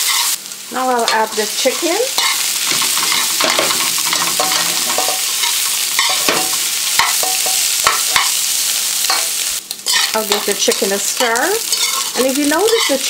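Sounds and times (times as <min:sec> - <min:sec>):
chicken sizzling in oil: 0:00.0 - 0:13.0
metal spatula scraping pan: 0:01.1 - 0:08.4, 0:09.1 - 0:13.0.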